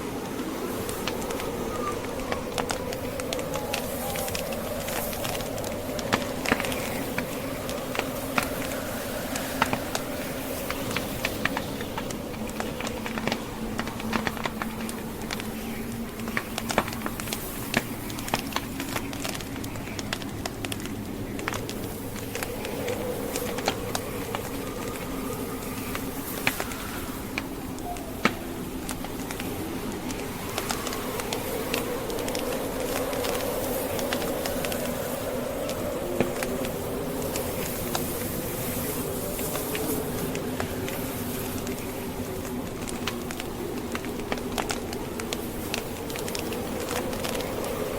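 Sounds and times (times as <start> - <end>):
blizzard wind: 0.0 - 47.9
log fire crackling and popping: 0.0 - 47.9.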